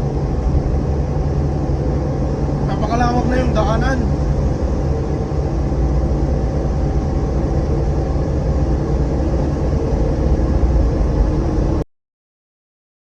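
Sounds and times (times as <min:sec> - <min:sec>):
motorcycle engine hum: 0:00.0 - 0:11.8
wind rumble on microphone: 0:00.0 - 0:11.8.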